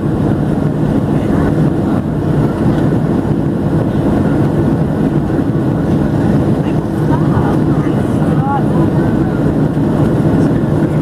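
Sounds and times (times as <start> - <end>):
jet engines rumbling in cabin: 0.0 - 11.0.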